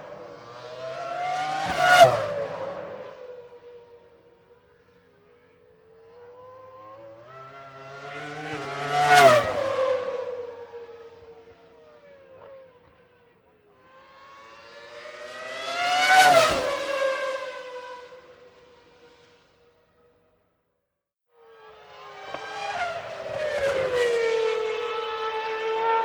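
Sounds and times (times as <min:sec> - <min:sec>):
racing cars passing at high speed: 0:00.0 - 0:19.7, 0:21.4 - 0:26.0.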